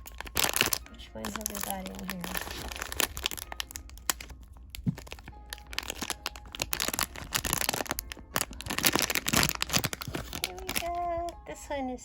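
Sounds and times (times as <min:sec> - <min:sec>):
wrapping crinkling and crackling: 0:00.0 - 0:11.6.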